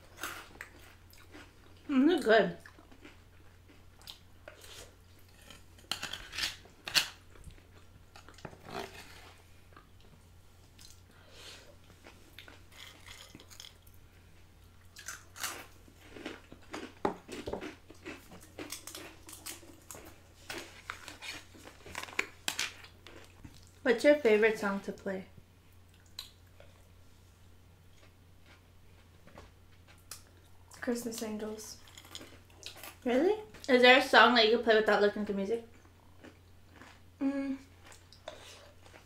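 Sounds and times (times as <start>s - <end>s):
chewing and crunching snacks: 0.0s - 1.9s, 2.6s - 11.1s, 11.7s - 23.8s, 27.9s - 33.7s, 35.7s - 39.0s.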